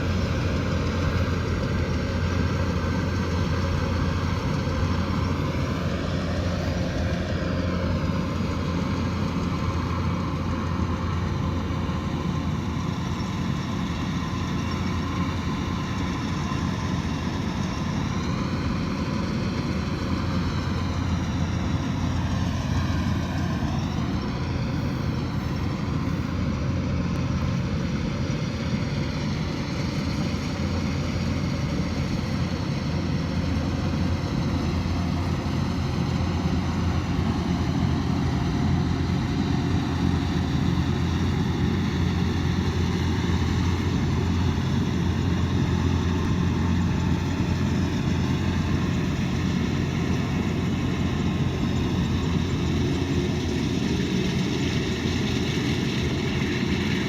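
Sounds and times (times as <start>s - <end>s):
combine harvester engine humming: 0.0s - 57.0s.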